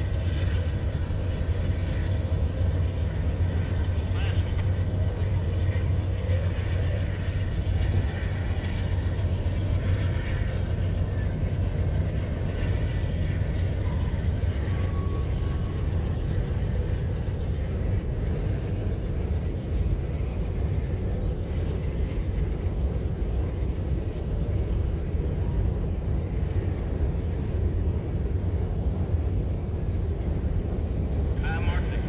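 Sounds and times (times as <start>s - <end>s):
freight train rumbling on bridge: 0.0s - 32.0s.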